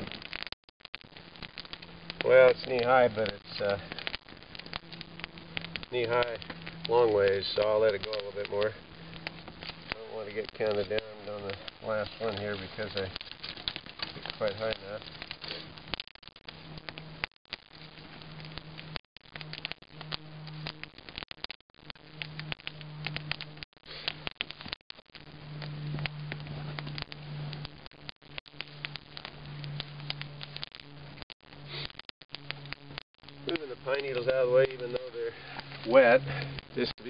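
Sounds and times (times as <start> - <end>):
fire crackling and popping: 0.0 - 37.0
low steady buzz: 1.0 - 37.0.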